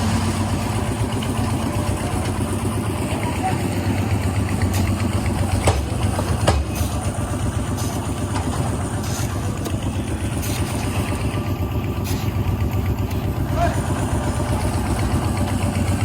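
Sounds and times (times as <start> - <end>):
construction machinery engine rumbling: 0.0 - 16.0.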